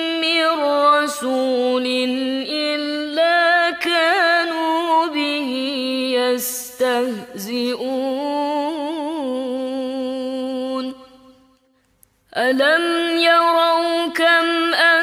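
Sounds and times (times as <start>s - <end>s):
woman reciting melodically: 0.0s - 11.6s, 12.2s - 15.0s.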